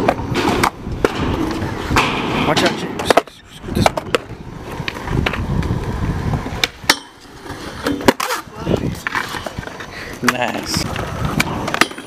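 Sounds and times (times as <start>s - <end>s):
skateboard clacking on ground: 0.0s - 12.0s
skateboard wheels rolling on concrete: 0.0s - 12.0s.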